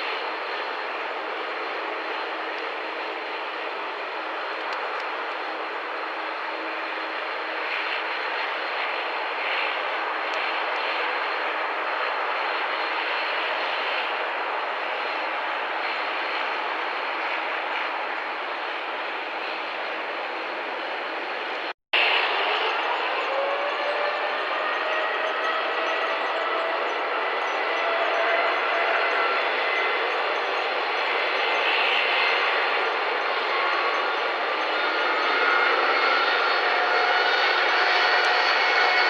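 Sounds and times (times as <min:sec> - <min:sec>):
jet engines rushing: 0:00.0 - 0:39.0.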